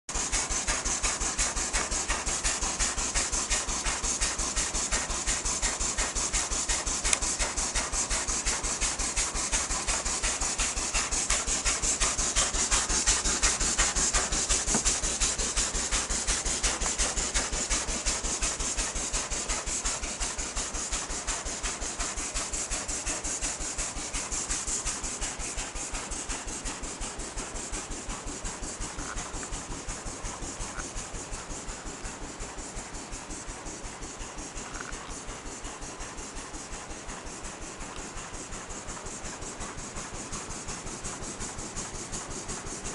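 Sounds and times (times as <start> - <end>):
steam engine exhaust chuffing: 0.1 - 42.9
steam hissing: 0.1 - 42.9.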